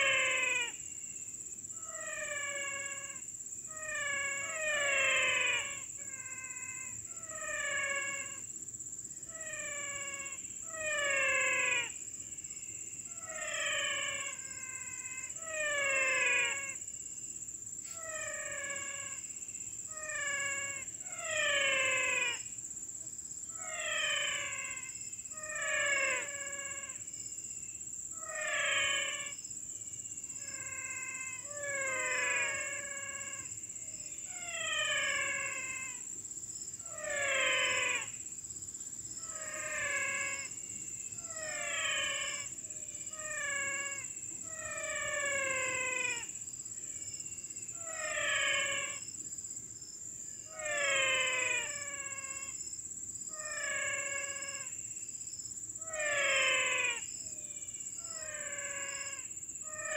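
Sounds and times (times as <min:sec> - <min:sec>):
high insect trill: 0:00.0 - 0:59.9.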